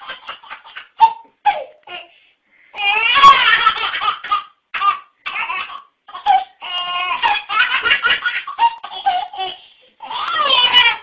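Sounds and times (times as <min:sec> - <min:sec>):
baby laughing: 0:00.0 - 0:02.1, 0:02.8 - 0:11.0.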